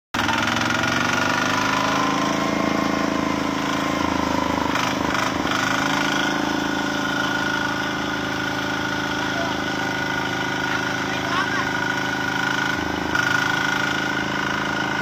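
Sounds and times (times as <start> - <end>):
diesel tractor engines running: 0.2 - 15.0.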